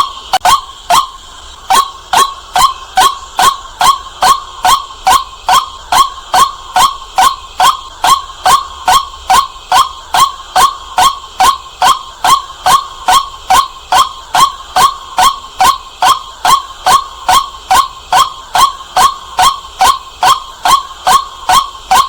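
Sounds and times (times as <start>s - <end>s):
bird calling kwak: 0.0s - 22.0s.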